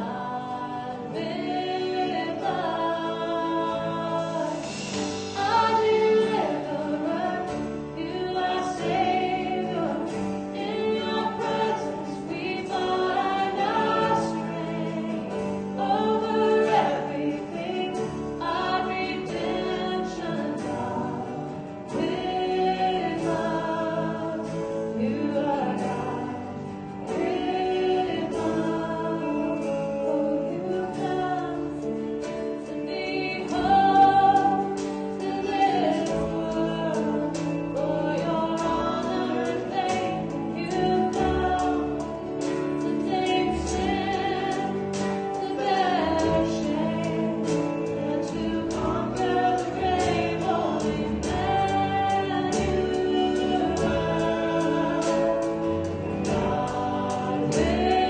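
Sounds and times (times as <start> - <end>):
acoustic guitar: 0.0 - 58.0
electric guitar: 0.0 - 58.0
keyboard: 0.0 - 58.0
voices singing together: 0.0 - 58.0.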